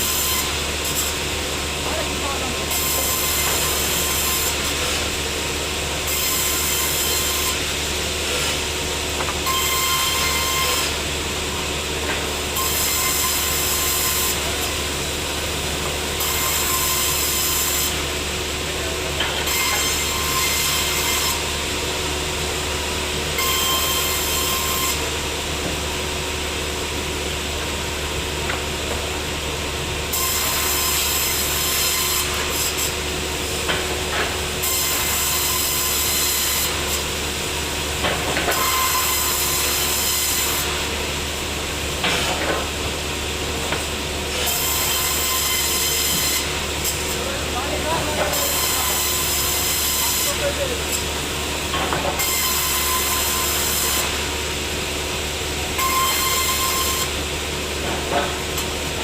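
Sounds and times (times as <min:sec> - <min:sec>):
sawmill saw cutting a log: 0:00.0 - 0:59.0.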